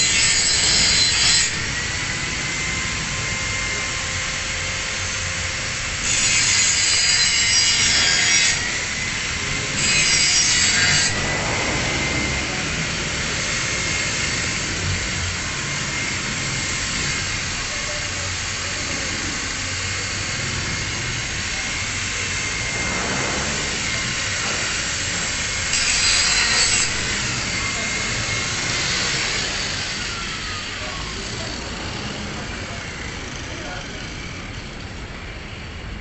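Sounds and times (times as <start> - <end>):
angle grinder grinding steel: 0.0 - 35.0.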